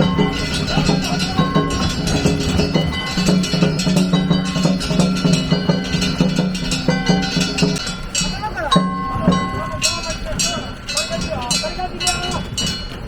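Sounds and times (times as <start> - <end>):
drums: 0.0 - 13.0
small hand gongs clanging: 0.0 - 13.0
sustained ringing tones: 0.0 - 13.0.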